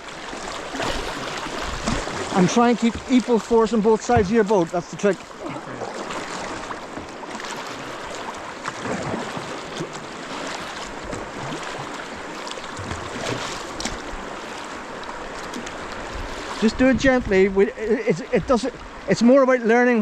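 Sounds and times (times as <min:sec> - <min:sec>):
small water splashes: 0:00.0 - 0:19.1
river current rushing: 0:00.0 - 0:19.7.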